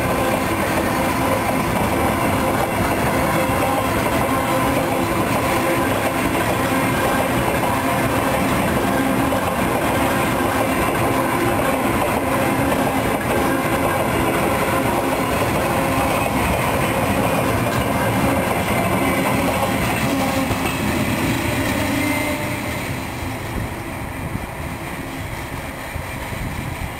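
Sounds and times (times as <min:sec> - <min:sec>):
freight train rumbling on rails: 0:00.0 - 0:26.9.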